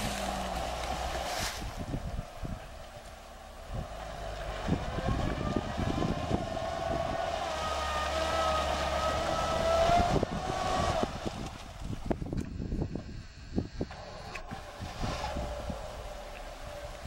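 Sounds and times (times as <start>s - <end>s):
mud and water splashing: 0.0s - 12.4s, 13.9s - 17.0s
car engine at high revs: 0.0s - 17.0s.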